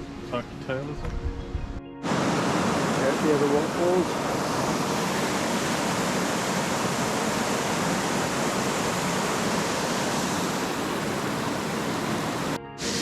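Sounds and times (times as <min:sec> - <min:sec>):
waterfall hissing: 0:02.0 - 0:13.0.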